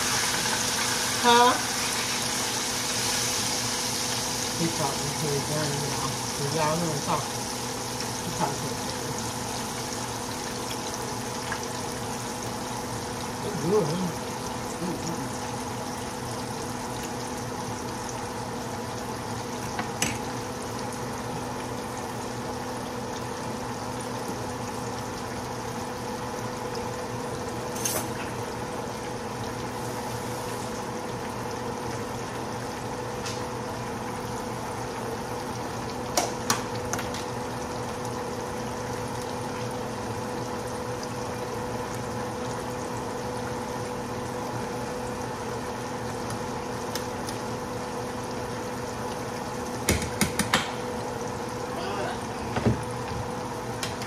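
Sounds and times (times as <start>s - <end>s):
meat sizzling in oil: 0.0s - 54.0s.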